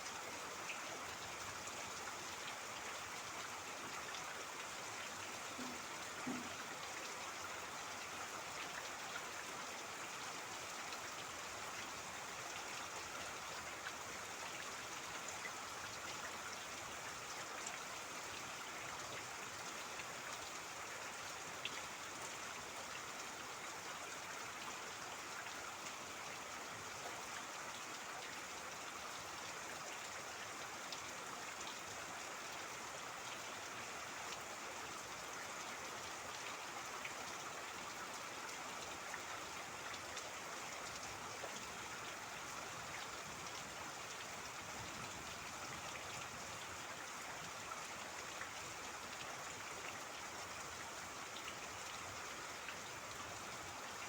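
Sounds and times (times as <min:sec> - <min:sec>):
steady rain: 0:00.0 - 0:54.0
trickling babbling water: 0:00.0 - 0:54.0.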